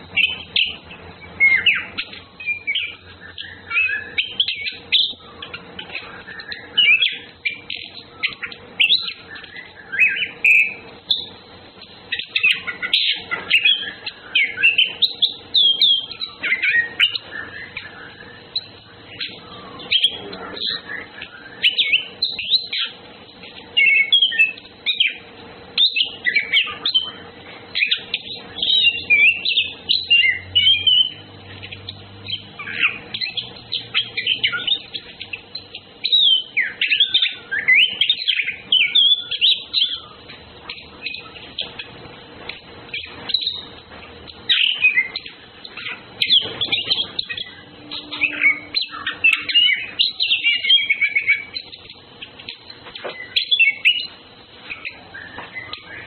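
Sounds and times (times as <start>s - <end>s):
thrushes singing: 0.0s - 56.0s.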